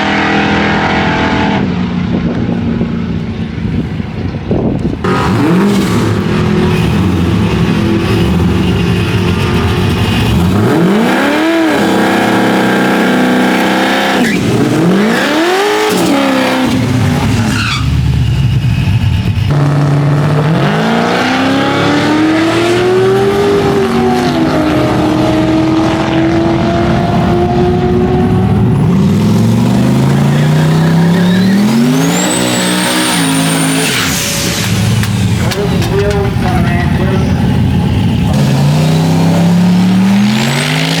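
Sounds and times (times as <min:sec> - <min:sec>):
car engine revving hard: 0:05.0 - 0:18.2, 0:19.3 - 0:35.7, 0:37.5 - 0:41.0.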